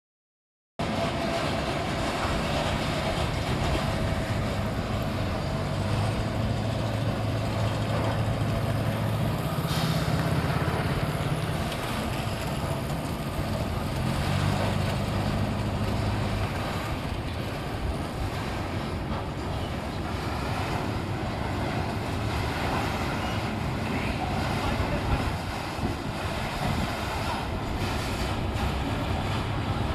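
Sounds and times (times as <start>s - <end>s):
heavy vehicle engine running: 0.8s - 29.9s.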